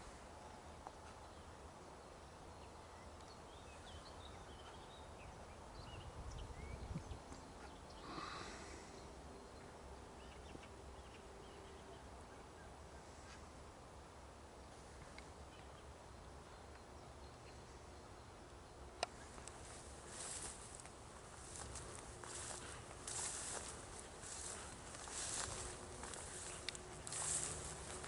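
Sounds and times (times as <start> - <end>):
small birds chirping: 0.4 - 12.0, 14.7 - 28.0.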